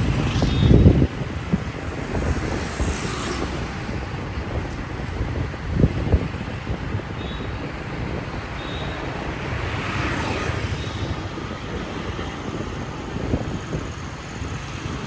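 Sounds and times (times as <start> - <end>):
vehicle and road noise: 0.0 - 15.0
wind buffeting microphone: 0.0 - 15.0.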